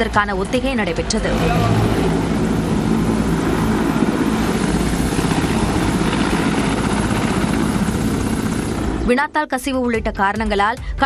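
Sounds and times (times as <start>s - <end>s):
helicopter engine rushing: 0.0s - 9.3s
helicopter rotor chopping: 0.0s - 9.4s.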